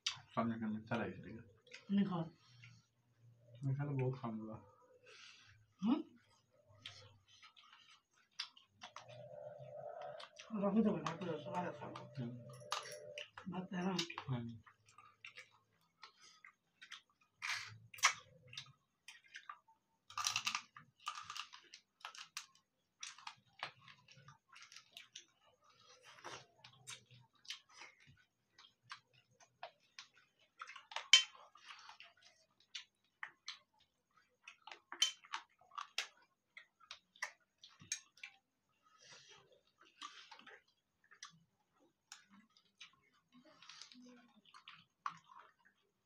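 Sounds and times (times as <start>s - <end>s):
chewing and mouth smacks: 6.2s - 46.0s.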